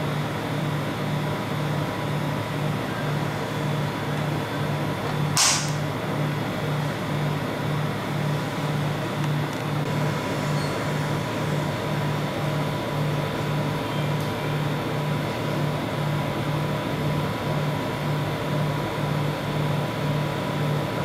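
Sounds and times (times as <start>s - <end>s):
compressor humming: 0.0s - 21.0s.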